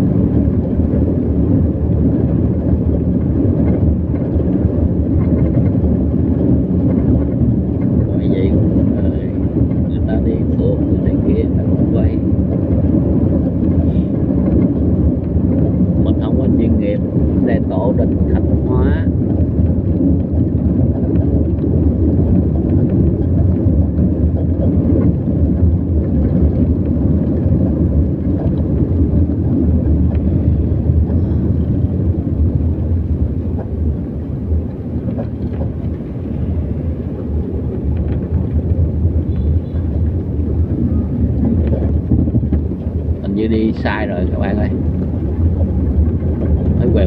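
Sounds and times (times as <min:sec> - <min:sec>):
vehicle driving on road: 0:00.0 - 0:47.0.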